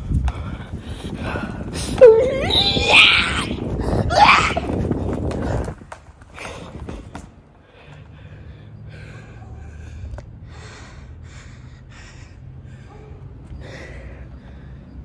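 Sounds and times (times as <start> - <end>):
man breathing heavily: 0.0 - 2.0, 3.6 - 4.1, 5.0 - 15.0.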